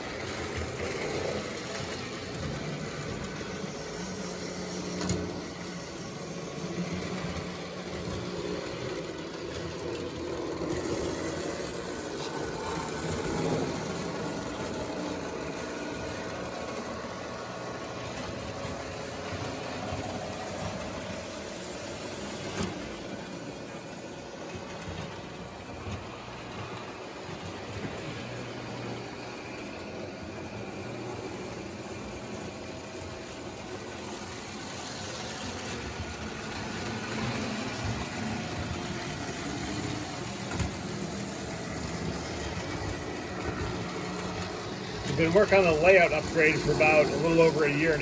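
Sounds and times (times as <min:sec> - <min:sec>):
electric motors humming: 0:00.0 - 0:48.0
wheels rolling on track: 0:00.0 - 0:48.0.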